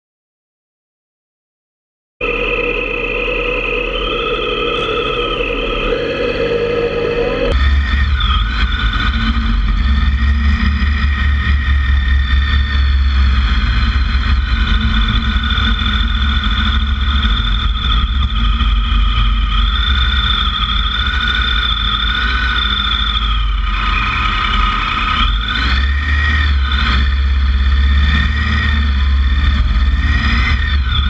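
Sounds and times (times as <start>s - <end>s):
motorcycle engine running: 2.2s - 31.0s.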